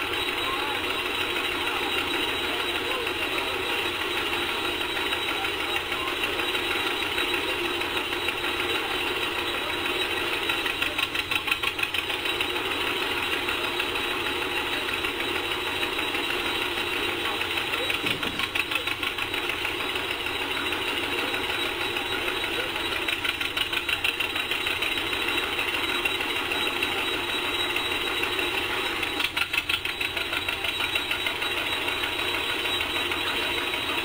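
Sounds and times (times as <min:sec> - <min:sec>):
threshing machine running: 0:00.0 - 0:34.0
tractor engine popping: 0:00.0 - 0:34.0.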